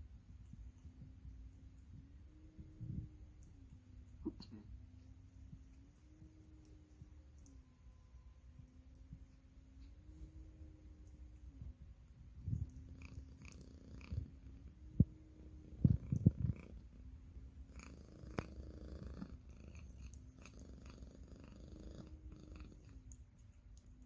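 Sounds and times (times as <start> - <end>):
cat purring: 0.1 - 24.0.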